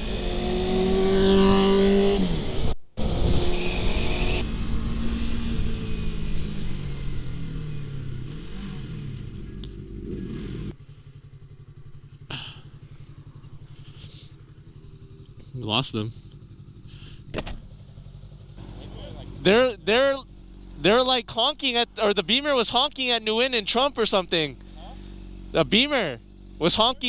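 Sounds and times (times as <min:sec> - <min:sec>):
motorcycle engine: 0:00.0 - 0:27.0.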